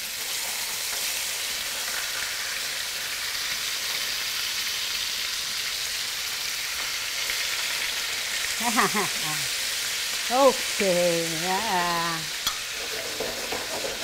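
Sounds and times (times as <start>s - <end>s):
steaks sizzling in a frying pan: 0.0s - 14.0s.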